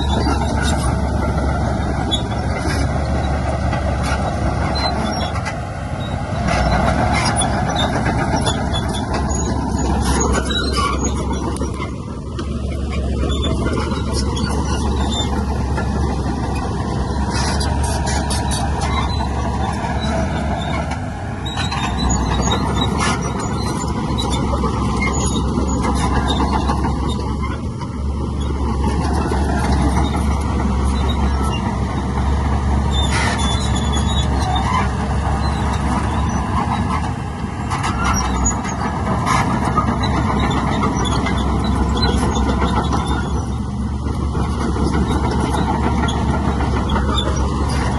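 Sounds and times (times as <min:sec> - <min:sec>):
diesel engine drone: 0:00.0 - 0:47.9.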